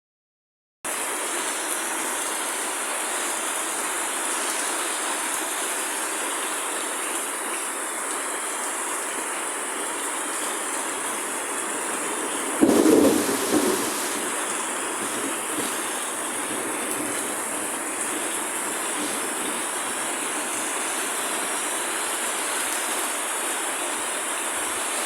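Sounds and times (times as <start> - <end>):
rain pouring down: 0.9 - 25.0.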